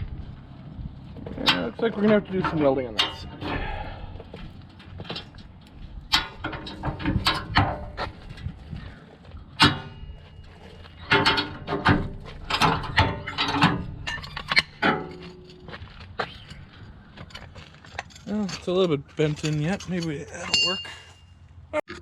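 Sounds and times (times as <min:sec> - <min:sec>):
metal clanks and knocks: 0:01.1 - 0:21.3.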